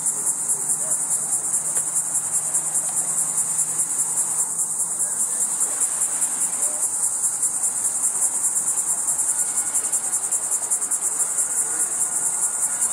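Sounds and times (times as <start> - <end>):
insect chorus trilling: 0.0 - 12.9.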